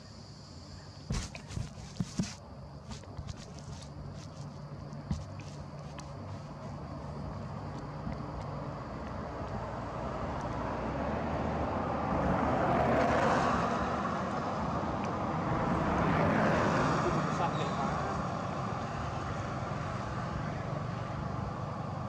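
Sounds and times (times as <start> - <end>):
road traffic passing: 1.0 - 22.0.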